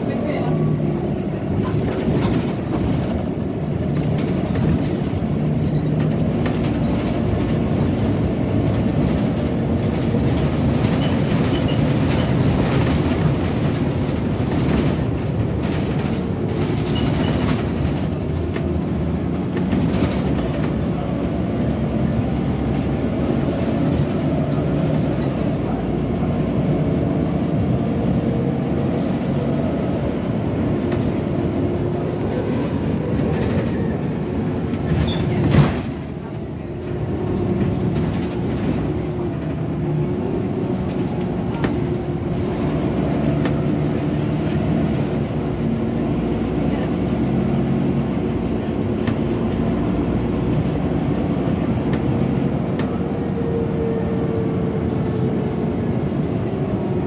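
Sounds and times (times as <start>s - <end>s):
bus engine drone: 0.0s - 57.0s
road noise: 0.0s - 57.0s.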